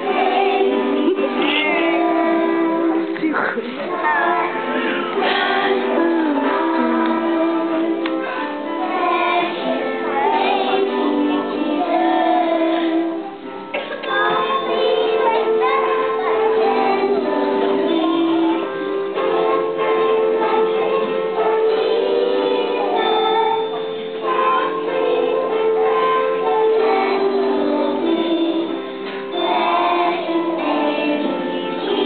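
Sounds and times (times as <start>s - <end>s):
child singing over music: 0.0s - 32.0s.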